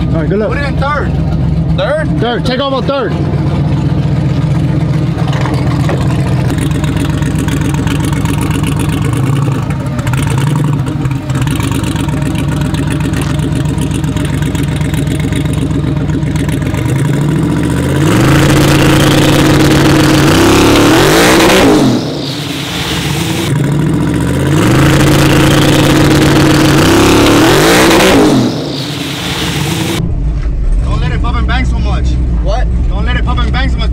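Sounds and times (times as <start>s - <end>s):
truck engine idling and revving: 0.0s - 33.9s.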